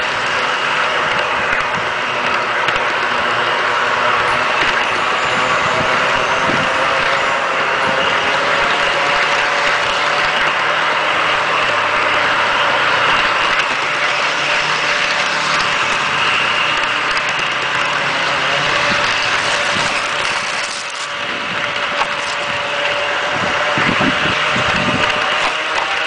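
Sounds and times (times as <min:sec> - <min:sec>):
model train motor whine: 0:00.0 - 0:26.0
wheels rattling on track: 0:00.0 - 0:26.0.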